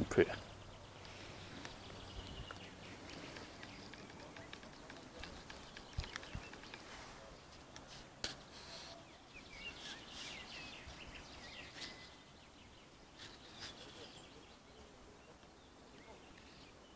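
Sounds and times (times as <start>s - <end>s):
faint small birds chirping: 0.0s - 16.9s.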